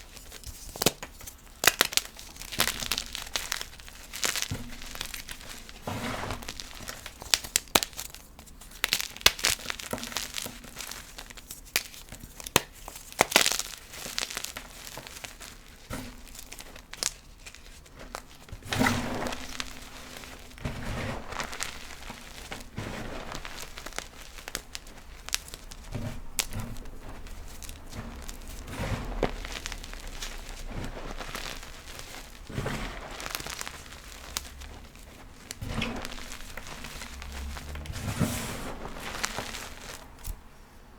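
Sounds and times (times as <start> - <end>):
chalk crunching and cracking: 0.0 - 40.6
powdery crumbling: 0.0 - 40.6.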